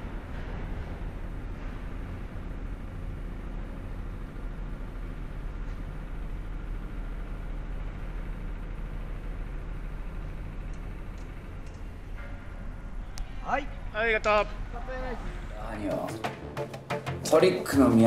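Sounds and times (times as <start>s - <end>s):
distant city traffic: 0.0s - 18.0s.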